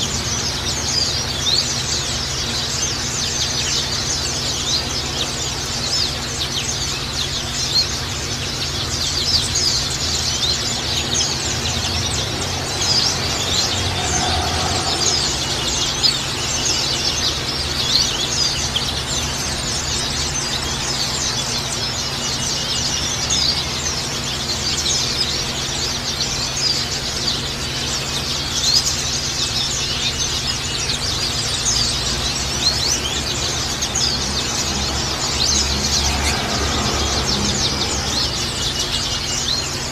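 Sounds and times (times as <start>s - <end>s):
flock of birds twittering: 0.0s - 39.9s.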